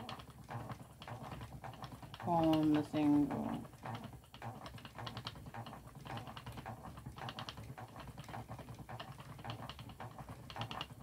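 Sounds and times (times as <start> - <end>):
spinning wheel clicking: 0.0 - 11.0
treadle knocking: 0.0 - 11.0.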